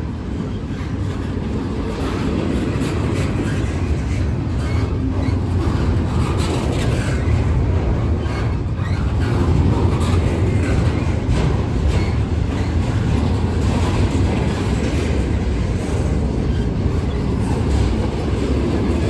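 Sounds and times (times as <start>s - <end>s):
steel wheels rumbling on rail: 0.0s - 19.0s.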